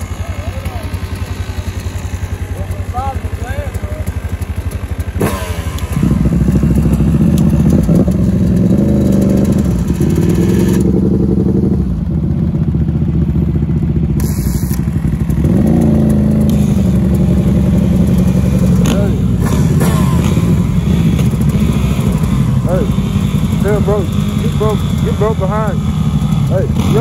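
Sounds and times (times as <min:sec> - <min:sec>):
dirt bike engine shifting gears: 0:00.0 - 0:27.0.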